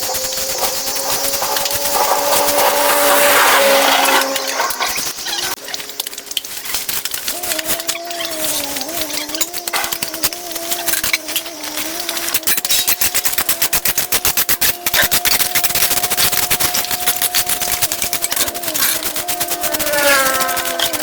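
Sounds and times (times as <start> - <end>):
power cutting tool engine running: 0.0 - 5.3, 8.3 - 21.0
dense rapid clatter: 0.0 - 21.0.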